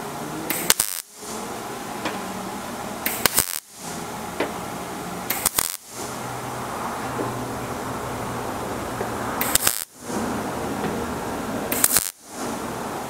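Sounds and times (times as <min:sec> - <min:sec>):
welding arc bursts: 0:00.0 - 0:13.0.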